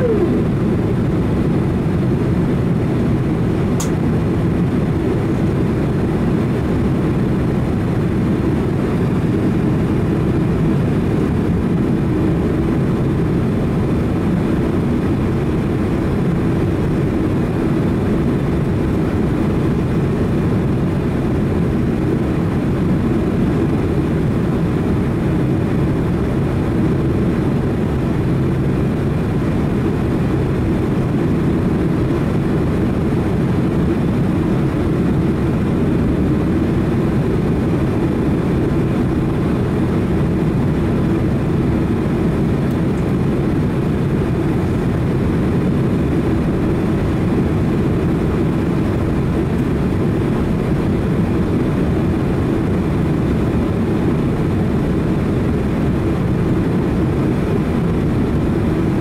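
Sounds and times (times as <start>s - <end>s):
jet engines low rumble: 0.0s - 59.0s.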